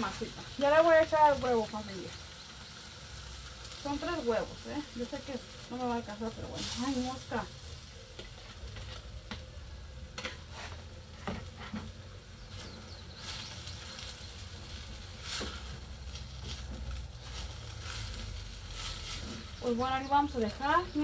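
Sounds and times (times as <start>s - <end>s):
crackles and pops: 0.0s - 21.0s
food sizzling in a skillet: 0.0s - 21.0s.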